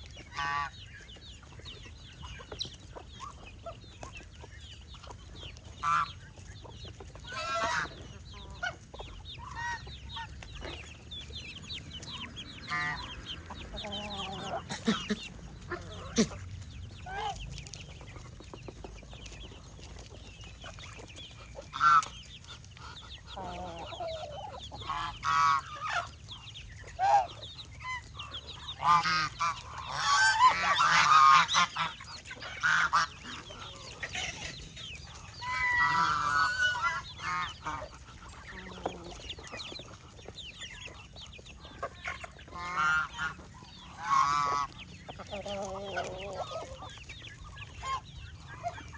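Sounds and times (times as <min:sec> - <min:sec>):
geese honking: 0:00.0 - 0:01.1, 0:05.0 - 0:17.4, 0:19.9 - 0:48.9
chickens clucking: 0:00.0 - 0:48.9.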